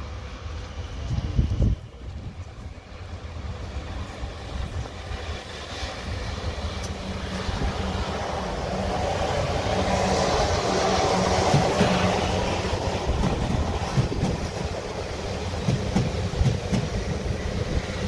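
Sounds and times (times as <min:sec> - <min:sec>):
train approaching: 0:00.0 - 0:18.0.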